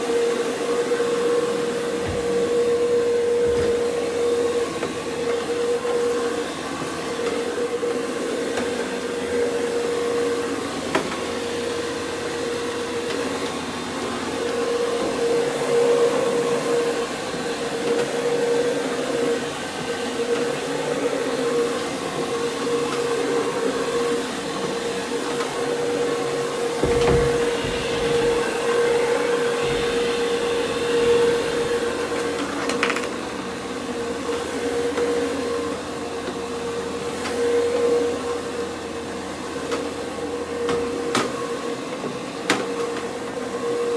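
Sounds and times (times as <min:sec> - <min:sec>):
carpet cleaning machine humming: 0:00.0 - 0:43.9.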